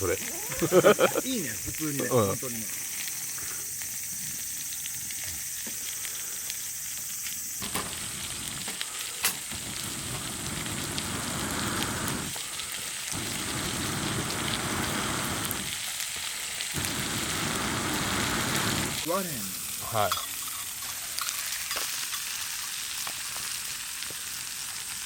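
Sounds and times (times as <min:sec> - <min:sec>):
faint steady hiss: 0:00.0 - 0:25.0
food sizzling in a pan: 0:00.0 - 0:25.0.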